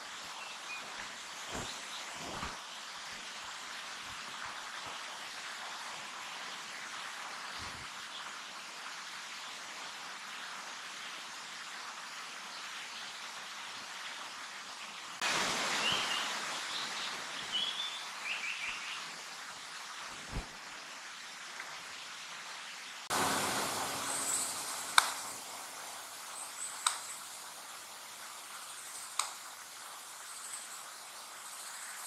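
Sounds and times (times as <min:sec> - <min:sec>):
forest ambience hiss: 0:00.0 - 0:32.0.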